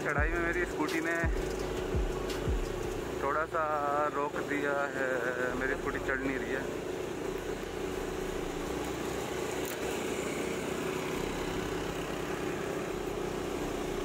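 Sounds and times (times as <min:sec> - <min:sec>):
motor scooter engine droning: 0:00.0 - 0:14.0.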